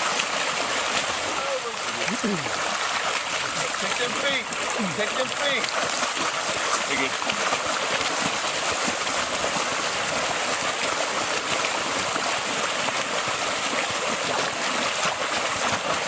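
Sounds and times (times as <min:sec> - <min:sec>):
water splashing from kicking feet: 0:00.0 - 0:16.0.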